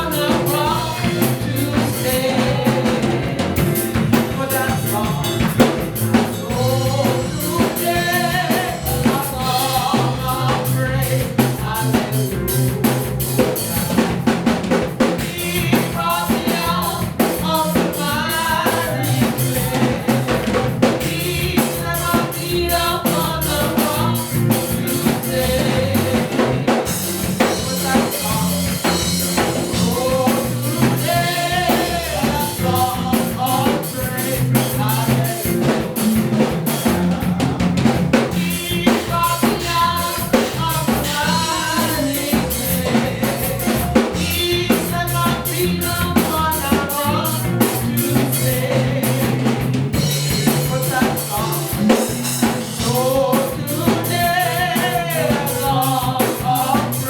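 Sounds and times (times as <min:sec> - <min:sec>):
drum kit beat: 0:00.0 - 0:57.0
gospel band music: 0:00.0 - 0:57.0.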